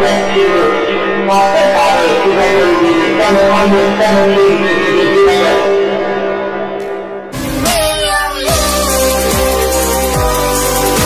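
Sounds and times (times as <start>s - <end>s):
held synth chords: 0.0s - 11.0s.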